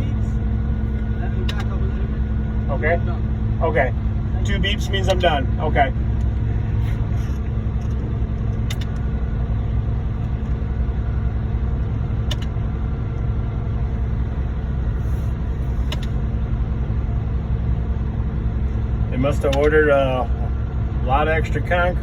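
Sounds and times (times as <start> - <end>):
diesel truck engines running: 0.0 - 22.0.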